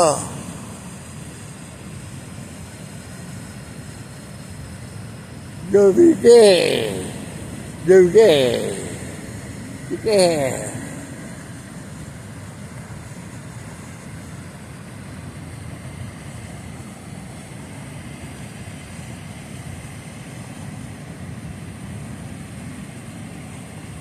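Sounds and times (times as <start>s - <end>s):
river current rushing: 0.0s - 23.9s.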